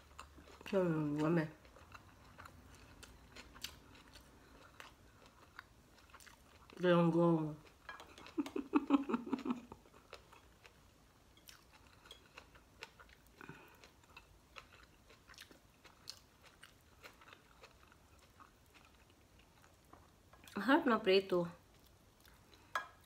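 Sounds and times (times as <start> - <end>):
person chewing: 0.0 - 6.8, 7.6 - 20.6, 21.6 - 23.0.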